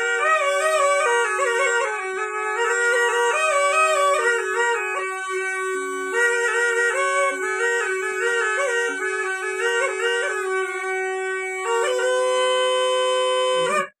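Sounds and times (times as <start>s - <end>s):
folk wind instrument melody: 0.0s - 14.0s.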